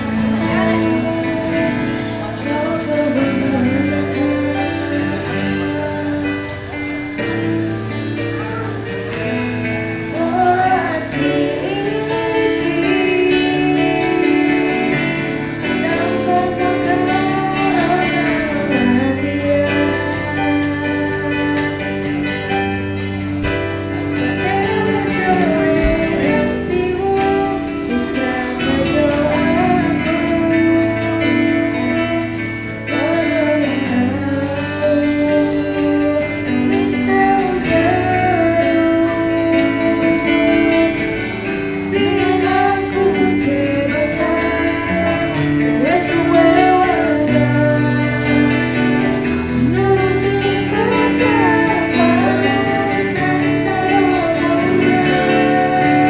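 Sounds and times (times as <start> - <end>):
live instrumental accompaniment: 0.0 - 56.0
woman singing into microphone: 0.0 - 56.0.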